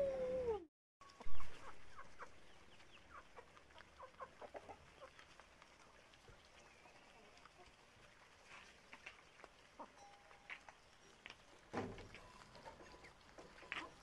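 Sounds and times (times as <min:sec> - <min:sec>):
chickens clucking: 0:01.0 - 0:11.5, 0:12.1 - 0:14.0.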